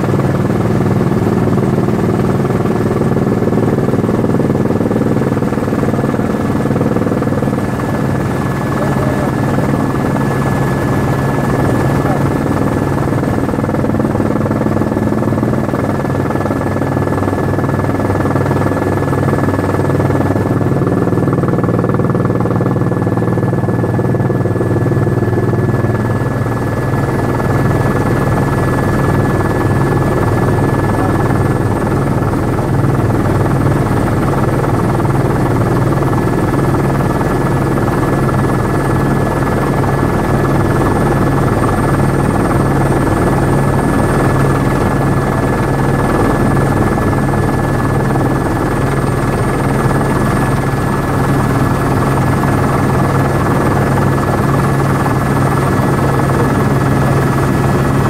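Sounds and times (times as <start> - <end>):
helicopter rotor and engine noise: 0.0 - 58.0.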